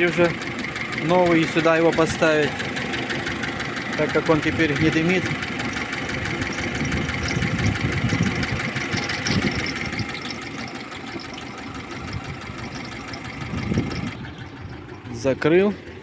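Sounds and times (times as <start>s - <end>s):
car engine idling with ticking: 0.0s - 16.0s.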